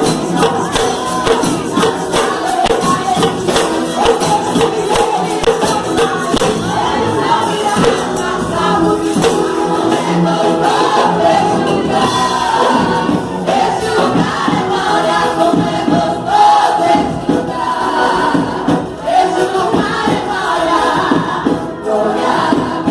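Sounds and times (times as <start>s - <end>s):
church percussion playing: 0.0s - 22.9s
group of voices singing: 0.0s - 22.9s.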